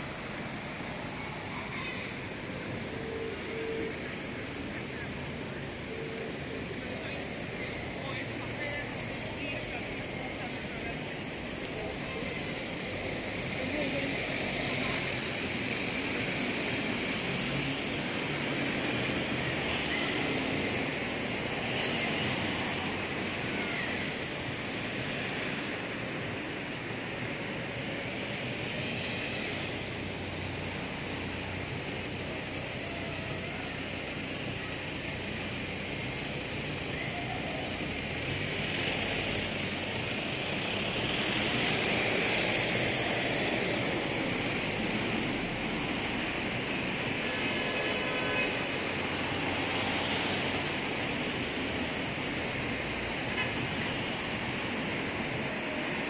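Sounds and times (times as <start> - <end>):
tram running on rails: 0.0 - 56.0
tyres hissing on wet road: 0.0 - 56.0
vehicle engines passing: 0.0 - 56.0.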